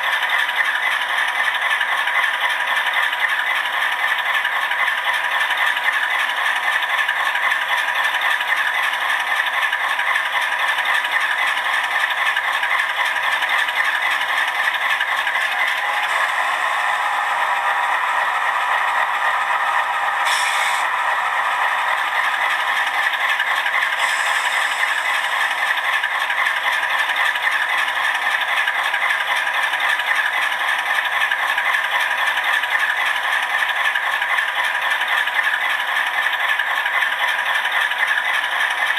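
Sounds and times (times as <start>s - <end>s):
diesel engine sound from small speaker: 0.0s - 38.9s.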